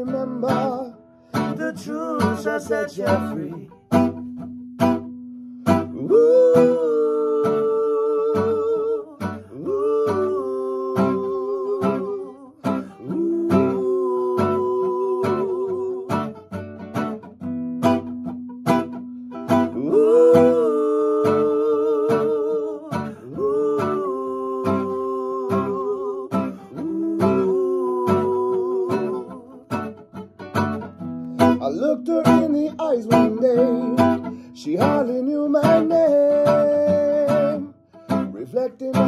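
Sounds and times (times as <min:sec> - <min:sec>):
person singing wordless melody: 0:00.0 - 0:04.0, 0:05.7 - 0:16.6, 0:19.4 - 0:30.2, 0:31.2 - 0:39.0
acoustic guitar reggae strumming: 0:00.0 - 0:39.0.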